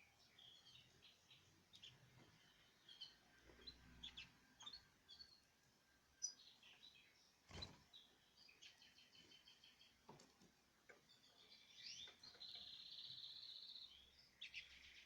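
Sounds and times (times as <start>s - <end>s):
canaries chirping: 0.0s - 10.0s, 10.9s - 15.0s.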